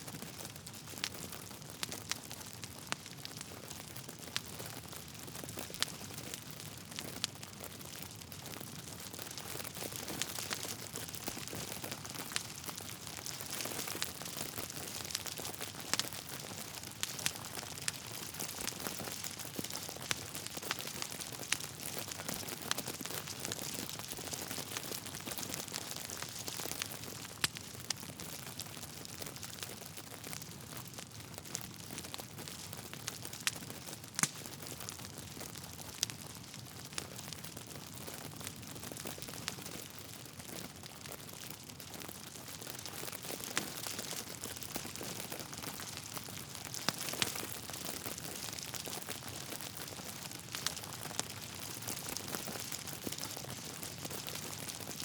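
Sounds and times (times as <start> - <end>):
wood logs crackling in fireplace: 0.1 - 55.0.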